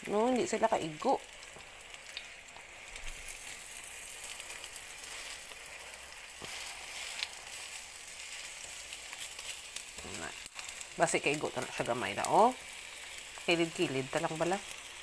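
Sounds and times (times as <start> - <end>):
burger patties sizzling in oil: 0.0 - 15.0.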